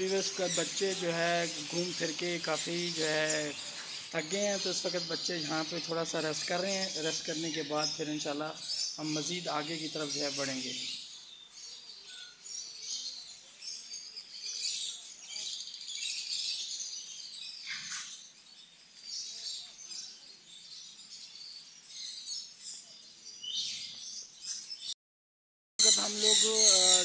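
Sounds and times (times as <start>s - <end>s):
birds chirping and twittering: 0.0s - 25.0s, 25.8s - 27.0s.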